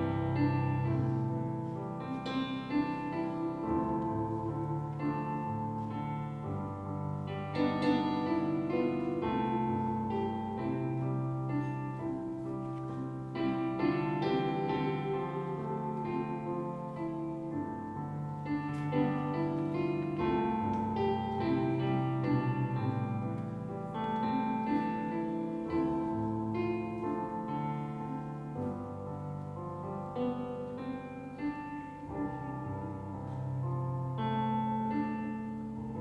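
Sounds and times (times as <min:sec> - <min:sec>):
piano chords over bass line: 0:00.0 - 0:36.0.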